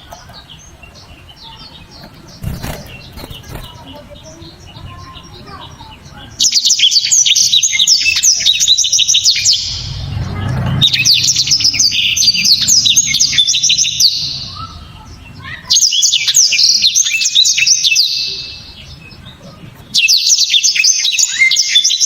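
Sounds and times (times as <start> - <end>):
bird singing high chirps: 0.0 - 22.0.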